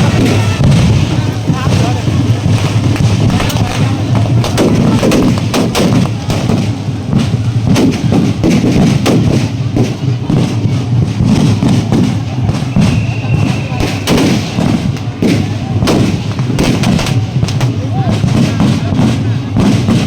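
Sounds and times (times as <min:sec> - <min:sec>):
large drums beaten fast: 0:00.0 - 0:20.0.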